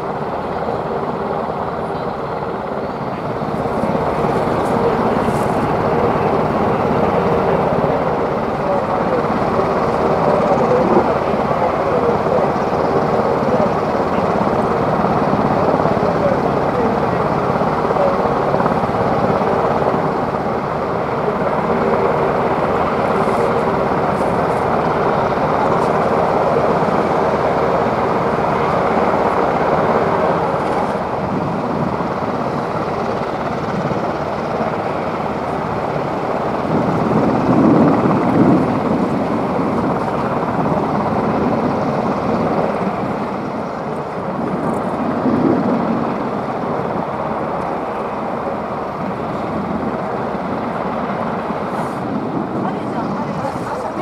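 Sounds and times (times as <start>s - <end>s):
loud engine drone: 0.0s - 54.0s.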